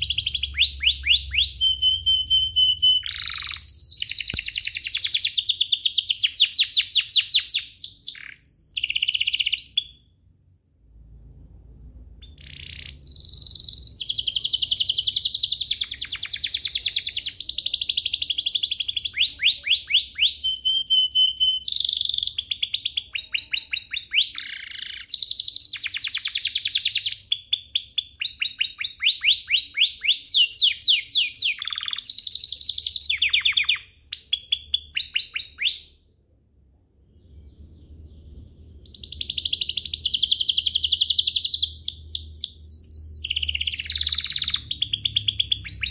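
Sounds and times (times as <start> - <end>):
canary singing trills: 0.0 - 10.2, 12.2 - 36.0, 37.2 - 45.9.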